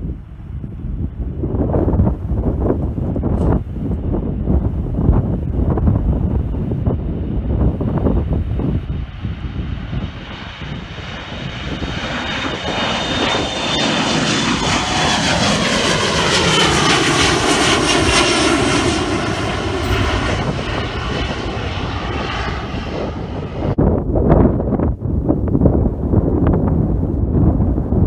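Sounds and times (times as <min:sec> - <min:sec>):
jet plane roaring overhead: 0:00.0 - 0:23.8.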